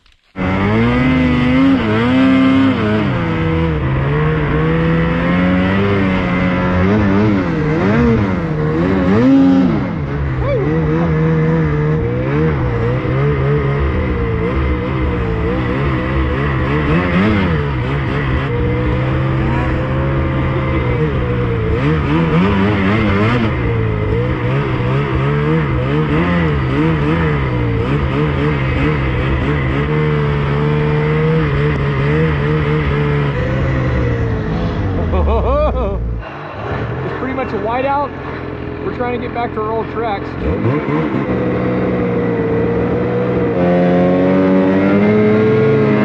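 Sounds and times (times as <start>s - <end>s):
snowmobile engine revving: 0.0s - 46.0s.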